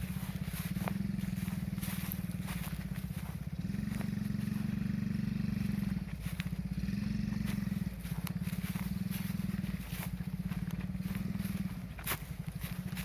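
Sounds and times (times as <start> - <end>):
small quad bike engine running: 0.0 - 13.0.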